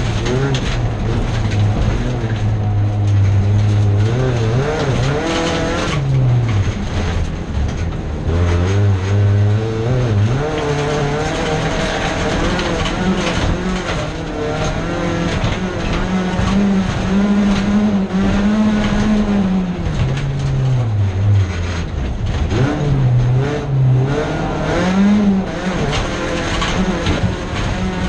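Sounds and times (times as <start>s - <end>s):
car body knocking and rattling: 0.0s - 28.0s
race car engine running hard: 0.0s - 28.0s.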